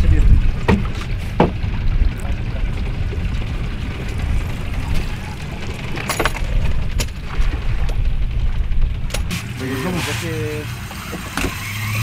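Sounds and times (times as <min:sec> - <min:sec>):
boat engine rumble: 0:00.0 - 0:12.0
water noise: 0:00.0 - 0:12.0
wind: 0:00.0 - 0:12.0.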